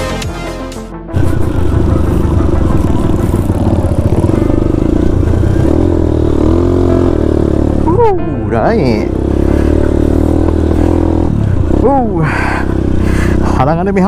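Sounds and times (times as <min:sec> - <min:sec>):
motorcycle engine running: 0:01.1 - 0:14.0
engine clatter: 0:01.2 - 0:14.0.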